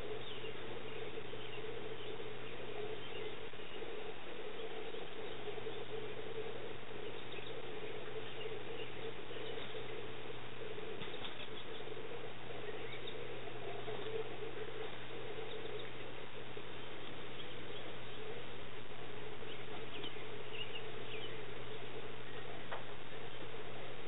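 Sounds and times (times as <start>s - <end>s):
steady hum and hiss: 0.0s - 24.0s.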